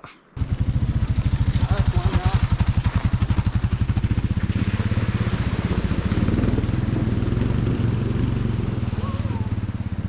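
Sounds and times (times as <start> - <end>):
motorcycle engine running: 0.4 - 10.0.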